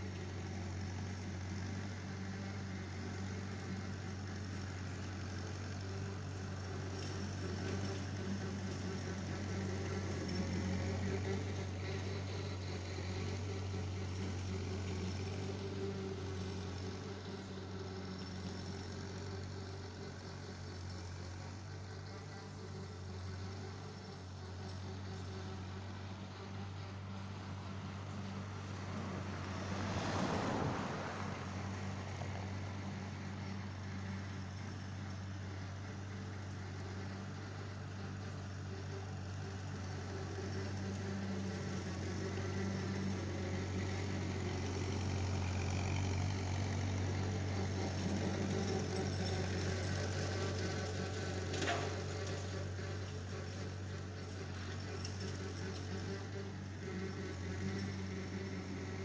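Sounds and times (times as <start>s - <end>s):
distant tractor engine running: 0.0s - 59.0s.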